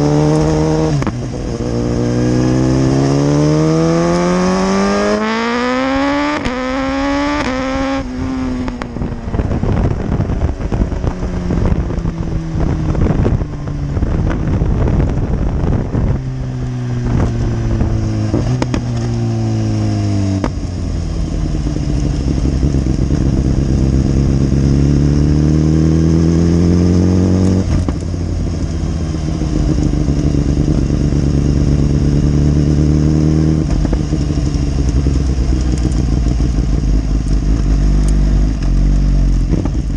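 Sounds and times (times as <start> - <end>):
motorcycle engine revving: 0.0 - 39.9
wind rush over microphone: 0.0 - 39.9.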